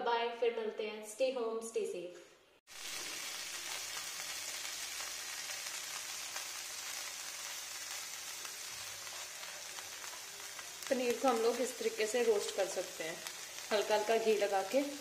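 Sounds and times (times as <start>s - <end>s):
cheese sizzling in ghee: 2.7s - 15.0s.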